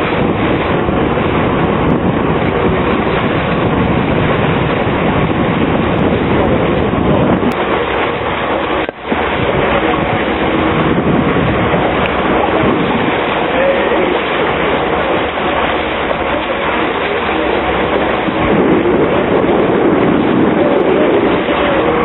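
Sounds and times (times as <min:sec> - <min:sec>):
water streaming past boat bow: 0:00.0 - 0:22.0
wind on microphone: 0:00.0 - 0:22.0.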